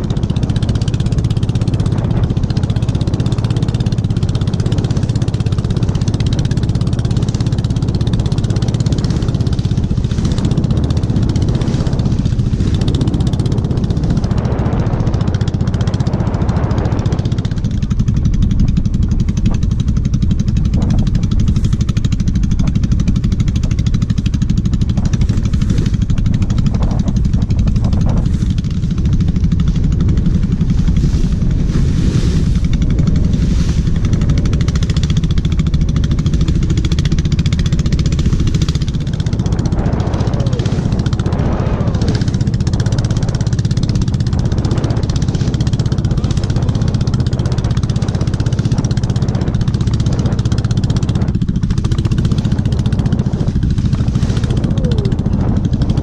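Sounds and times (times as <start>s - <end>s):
motorboat engine running: 0.0s - 56.0s.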